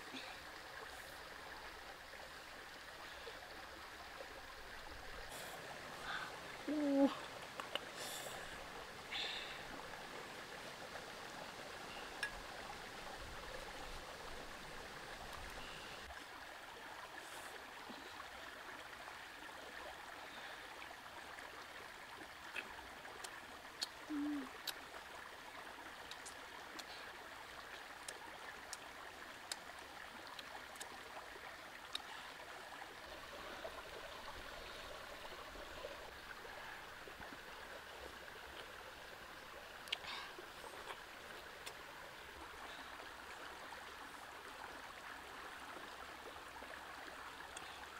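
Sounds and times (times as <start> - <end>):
stream running over rocks: 0.0 - 47.9.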